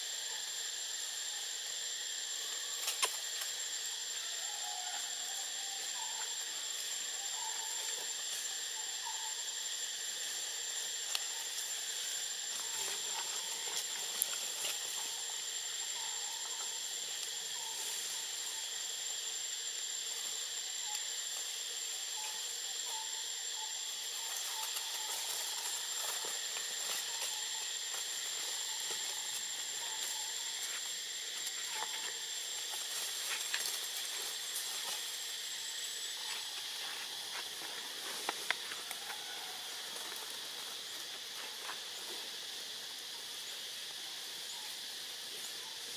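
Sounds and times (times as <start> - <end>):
insect chorus hiss: 0.0 - 45.9
thin insect whine: 0.0 - 45.9.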